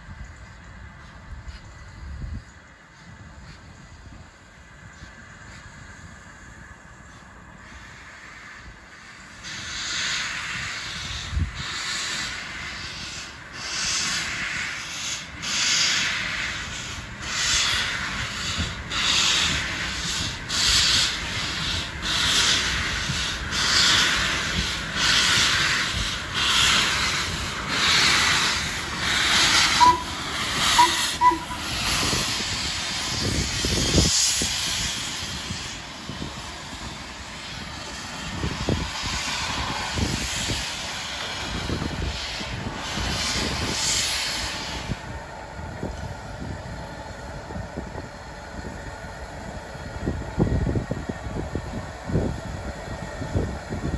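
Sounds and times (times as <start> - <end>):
train rumble: 0.0 - 53.9
steam locomotive chuffing: 4.6 - 53.9
steam hissing: 5.1 - 53.9.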